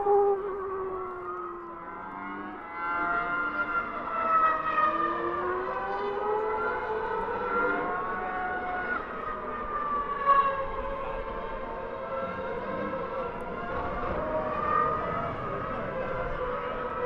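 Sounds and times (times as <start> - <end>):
racing car engines whining: 0.0 - 17.0.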